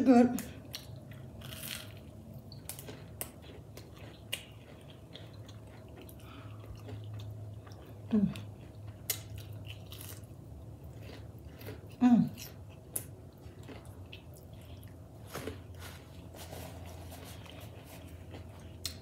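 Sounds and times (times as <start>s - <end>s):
chewing and crunching: 0.4s - 19.0s.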